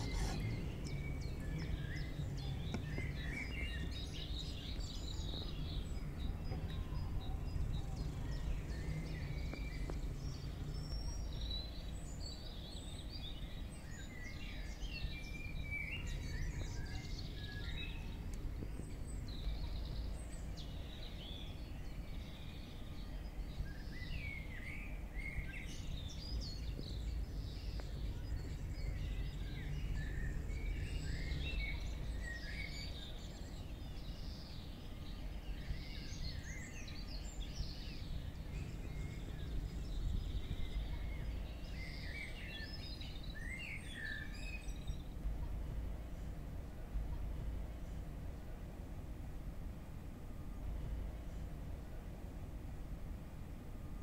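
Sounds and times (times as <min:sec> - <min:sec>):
small birds chirping: 0:00.0 - 0:49.1
low outdoor rumble: 0:00.0 - 0:54.0.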